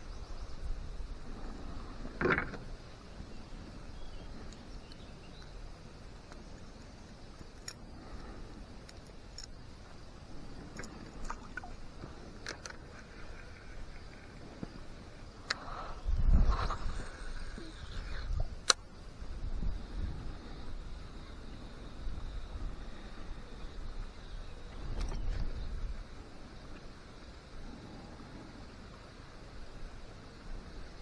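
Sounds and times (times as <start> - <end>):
faint outdoor background noise: 0.0 - 31.0.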